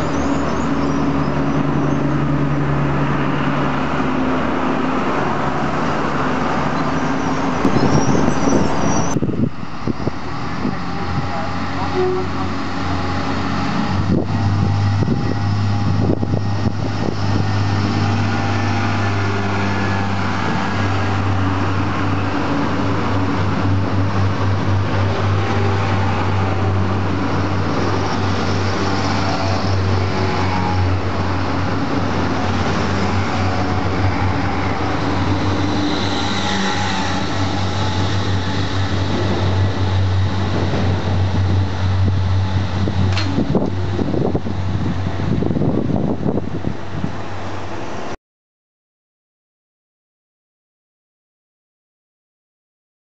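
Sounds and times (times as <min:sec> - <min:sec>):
train running drone: 0:00.0 - 0:48.2.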